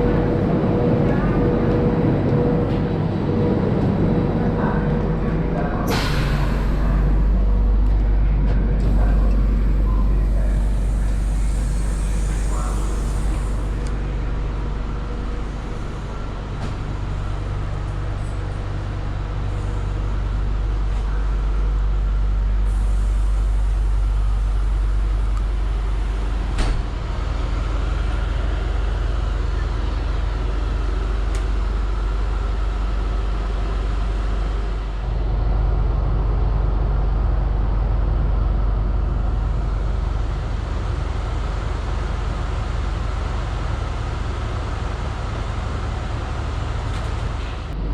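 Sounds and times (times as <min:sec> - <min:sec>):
passenger train rumbling: 0:00.0 - 0:47.9.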